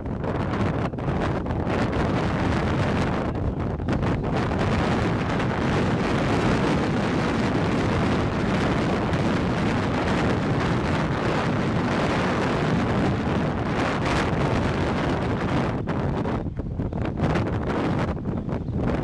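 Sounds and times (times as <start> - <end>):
wind blowing over microphone: 0.0 - 19.0.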